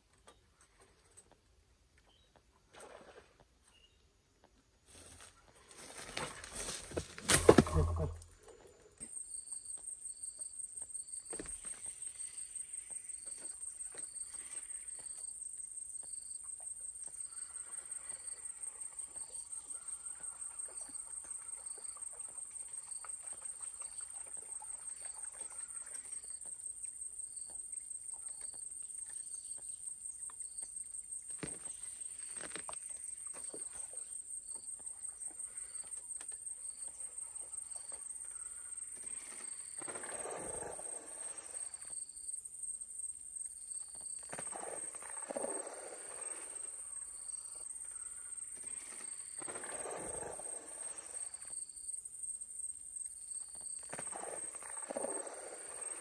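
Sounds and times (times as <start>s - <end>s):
softer insect call: 4.9s - 56.0s
insects trilling: 6.0s - 56.0s.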